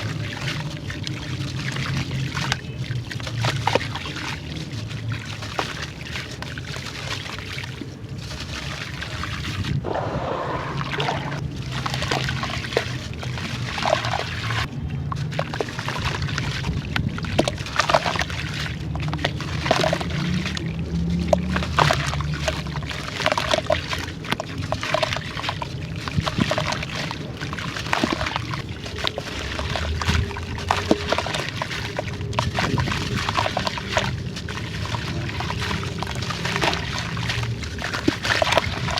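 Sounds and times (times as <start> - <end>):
water sloshing and trickling: 0.0 - 38.9.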